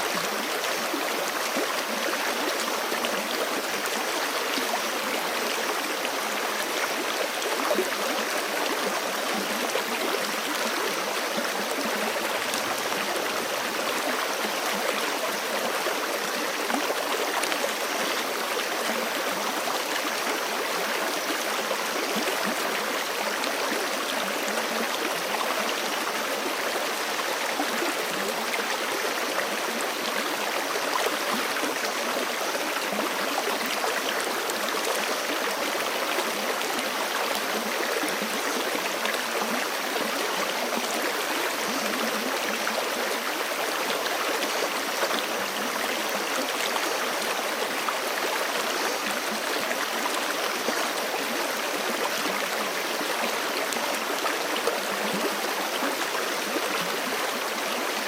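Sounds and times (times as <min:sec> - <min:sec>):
creek flowing over rocks: 0:00.0 - 0:58.0.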